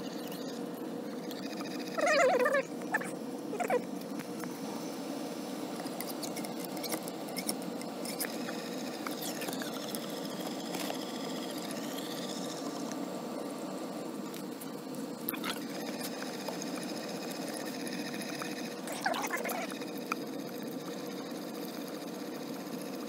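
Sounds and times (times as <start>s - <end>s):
air handler blower hum: 0.0s - 23.0s.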